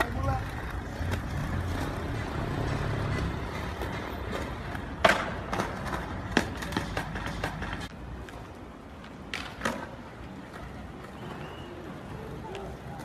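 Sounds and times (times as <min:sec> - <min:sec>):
skateboard clacking on ground: 0:00.0 - 0:08.4, 0:09.0 - 0:13.0
skateboard rolling on concrete: 0:00.0 - 0:13.0.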